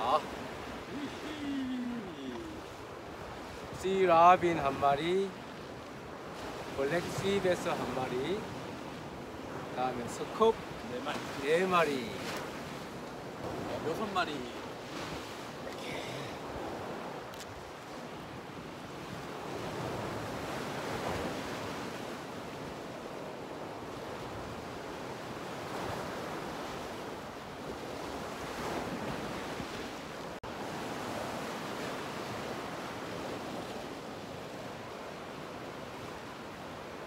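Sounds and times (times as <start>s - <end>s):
surf washing over rocks: 0.0s - 37.0s.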